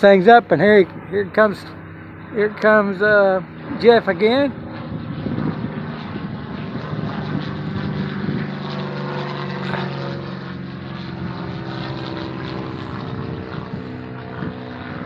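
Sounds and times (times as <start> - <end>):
light aircraft droning overhead: 0.0 - 15.0.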